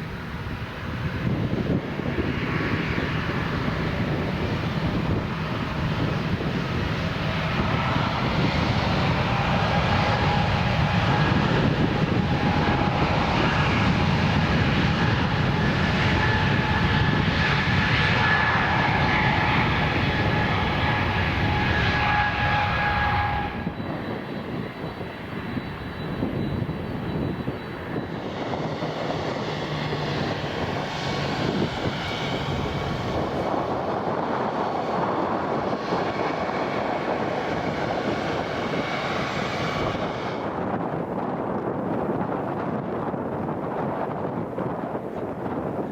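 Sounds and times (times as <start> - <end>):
jet engine two-note whine: 0.0 - 42.8
jet airliner taking off roar: 0.0 - 45.9
landing jet high whine: 0.0 - 45.9.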